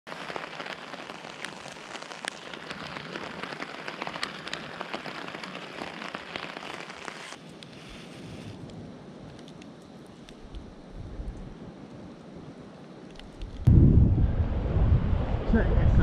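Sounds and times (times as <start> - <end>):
steady rain: 0.0 - 16.0
rain drops striking close by: 0.1 - 13.7.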